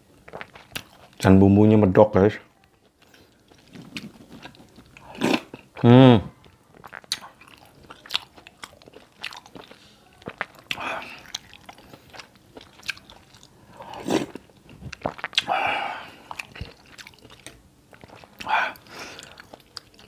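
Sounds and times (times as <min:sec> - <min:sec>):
chewing and lip-smacking: 0:00.3 - 0:01.2, 0:02.6 - 0:05.8, 0:06.4 - 0:20.0.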